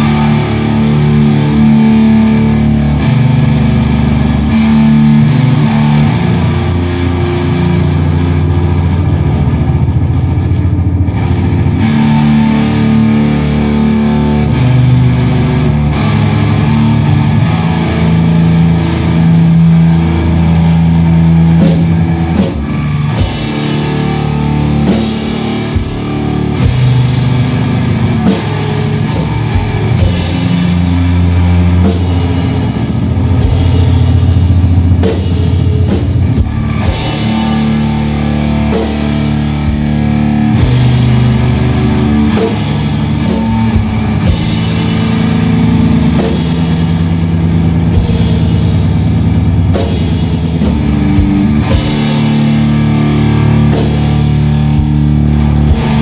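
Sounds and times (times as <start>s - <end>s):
bass guitar: 0.0s - 56.0s
drum kit hits and cymbals: 0.0s - 56.0s
heavy electric guitar chords: 0.0s - 56.0s.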